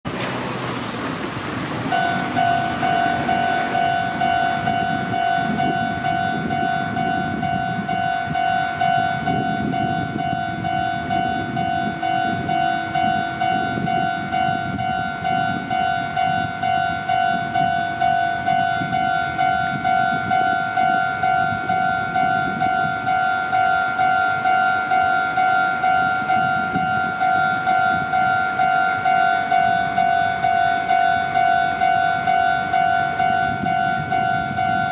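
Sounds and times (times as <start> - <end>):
level crossing warning bell: 1.8 - 34.9.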